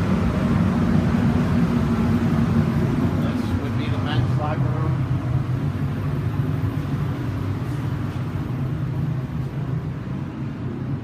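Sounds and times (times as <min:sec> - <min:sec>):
low rumble of machinery: 0:00.0 - 0:11.0.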